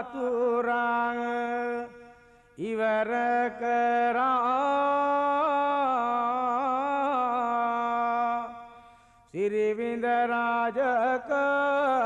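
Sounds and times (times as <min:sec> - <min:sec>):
solo voice chanting: 0:00.0 - 0:12.0.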